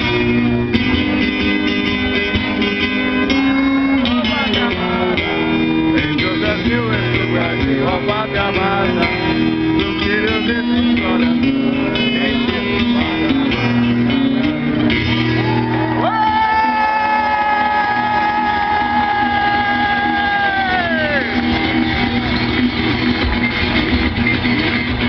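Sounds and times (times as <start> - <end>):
guitar strumming and picking: 0.0 - 25.0.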